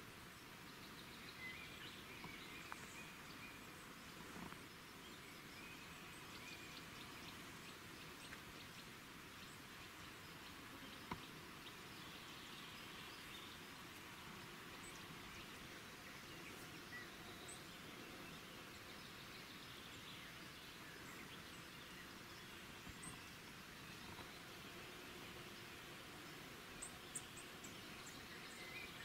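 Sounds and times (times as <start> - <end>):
steady low hiss: 0.0 - 29.0.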